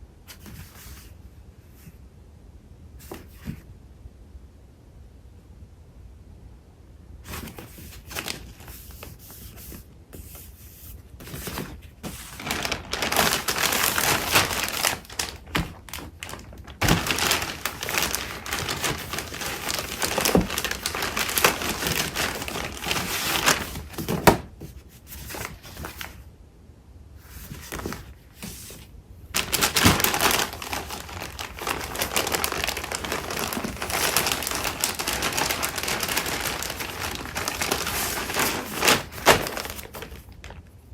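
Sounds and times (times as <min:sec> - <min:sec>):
paper rustling and crinkling: 0:00.3 - 0:02.0, 0:03.0 - 0:03.7, 0:07.2 - 0:26.2, 0:27.2 - 0:40.9.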